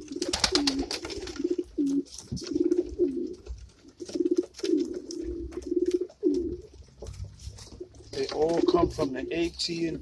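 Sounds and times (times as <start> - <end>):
pigeons cooing: 0.0 - 9.2
clicks and rustles from birds: 0.0 - 9.5.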